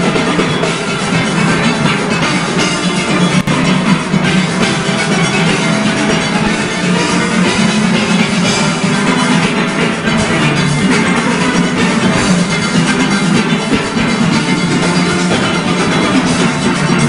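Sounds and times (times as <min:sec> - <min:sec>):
drums and percussion: 0:00.0 - 0:17.0
steelpans playing: 0:00.0 - 0:17.0.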